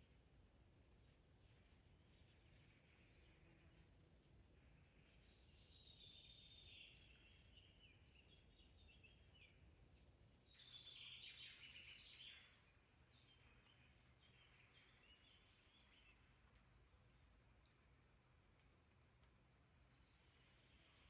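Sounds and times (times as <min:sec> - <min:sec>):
faint birdsong chirping: 0:00.0 - 0:21.0.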